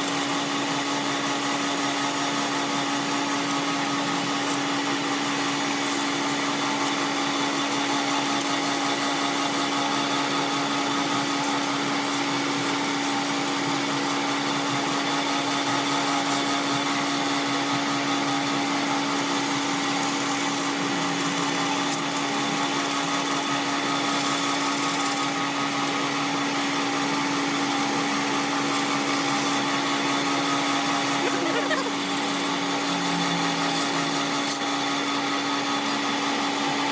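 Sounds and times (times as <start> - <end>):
power tool motor humming: 0.0 - 36.9.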